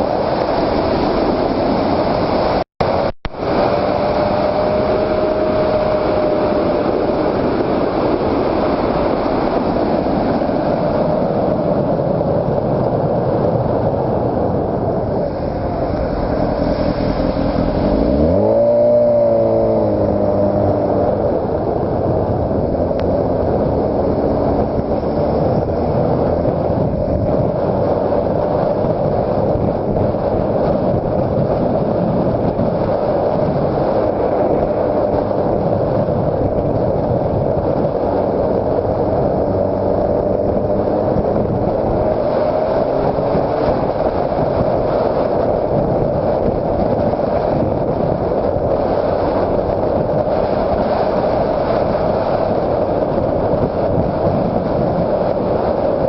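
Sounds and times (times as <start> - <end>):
motorcycle engine running: 0.0 - 12.8, 13.5 - 56.0
road and wind noise: 0.0 - 56.0.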